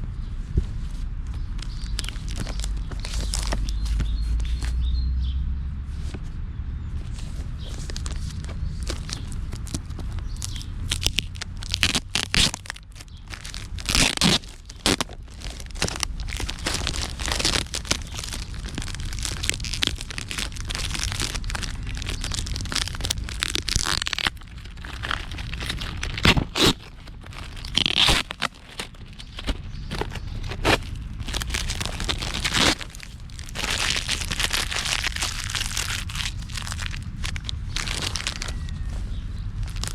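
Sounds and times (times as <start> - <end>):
packaging crinkling and rustling: 1.6 - 4.7, 7.2 - 38.9, 39.6 - 39.9.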